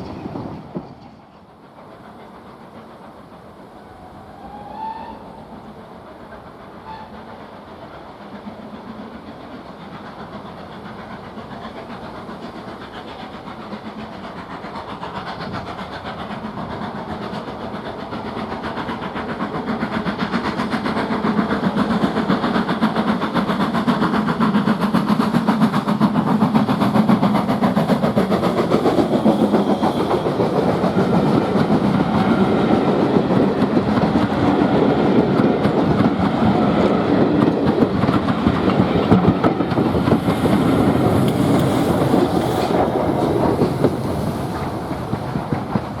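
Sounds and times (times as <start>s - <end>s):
steam train approaching: 0.0s - 46.0s.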